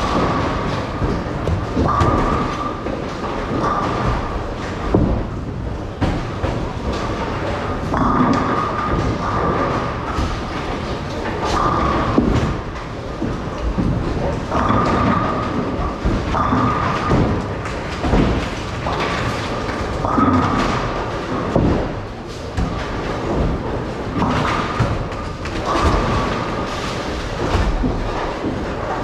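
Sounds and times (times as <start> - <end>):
bowling balls rolling: 0.0 - 29.0
bowling pins crashing: 0.0 - 29.0.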